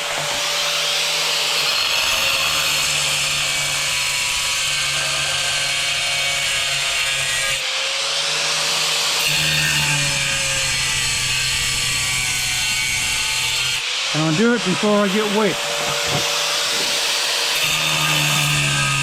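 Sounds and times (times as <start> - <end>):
angle grinder cutting tile: 0.0 - 19.0.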